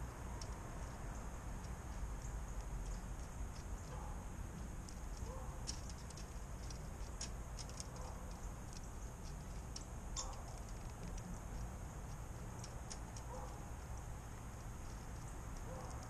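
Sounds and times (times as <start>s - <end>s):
birds pecking seed: 0.0s - 16.0s
low outdoor rumble: 0.0s - 16.0s.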